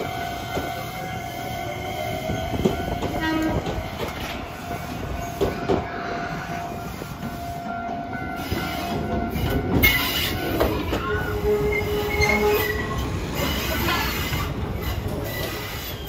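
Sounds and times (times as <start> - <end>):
train running gear rumble: 0.0 - 16.0
train wheels squealing: 0.0 - 16.0.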